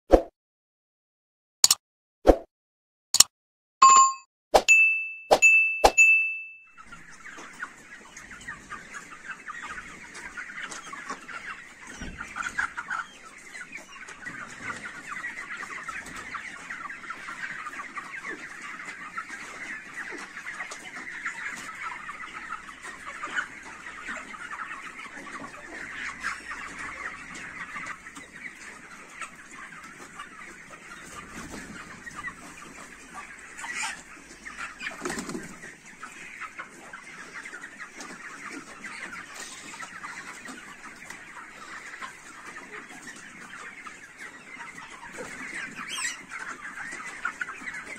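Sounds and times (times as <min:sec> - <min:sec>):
chicks calling: 0:06.7 - 0:47.9.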